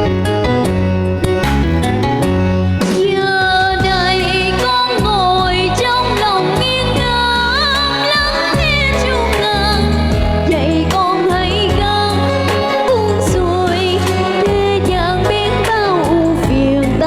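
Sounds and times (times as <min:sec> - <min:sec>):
instrumental backing track: 0:00.0 - 0:17.0
girl singing with vibrato: 0:03.0 - 0:17.0.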